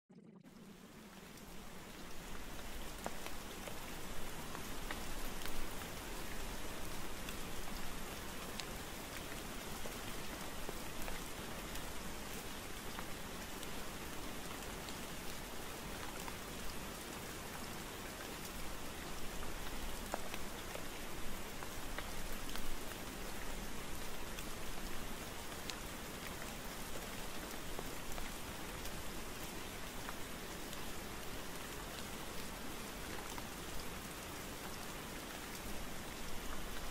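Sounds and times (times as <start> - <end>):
steady rain hiss: 0.4 - 36.9.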